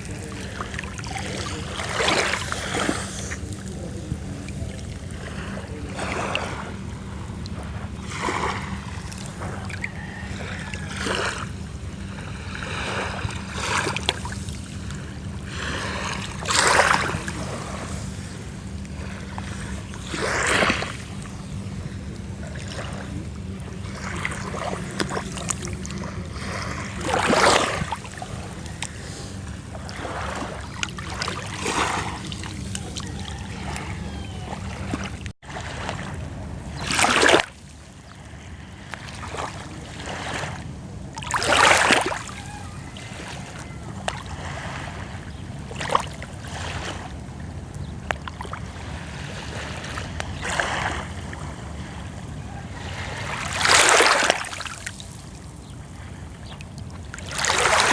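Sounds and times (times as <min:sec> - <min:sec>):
sea waves washing onto shore: 0:00.0 - 0:57.9.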